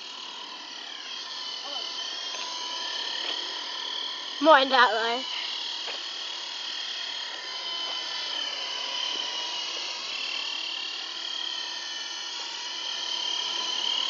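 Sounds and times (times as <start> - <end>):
model helicopter motor whine: 0.0 - 14.0.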